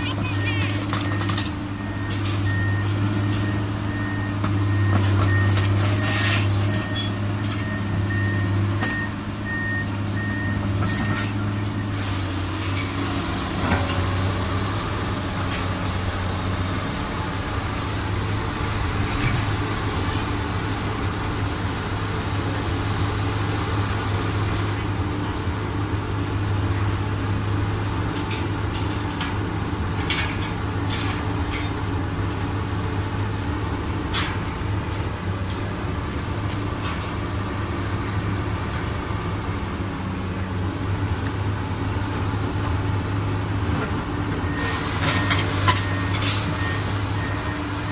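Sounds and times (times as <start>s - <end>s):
heavy machinery engine running: 0.0s - 47.9s.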